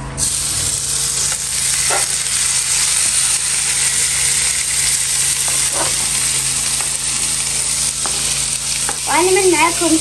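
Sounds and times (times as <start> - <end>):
oil sizzling in a frying pan: 0.2 - 10.0.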